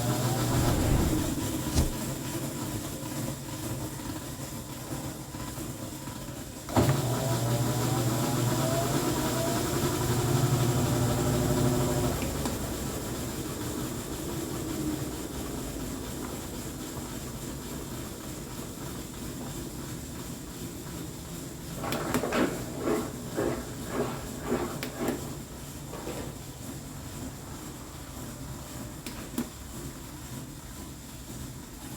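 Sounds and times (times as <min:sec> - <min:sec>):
washing machine spinning: 0:00.0 - 0:02.3, 0:03.5 - 0:31.9.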